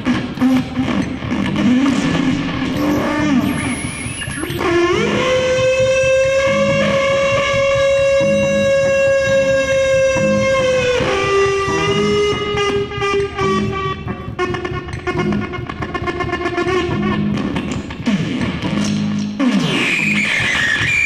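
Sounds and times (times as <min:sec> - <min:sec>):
electronic keyboard sustained tone: 0:00.0 - 0:18.0
repeating low pulse: 0:00.0 - 0:19.1.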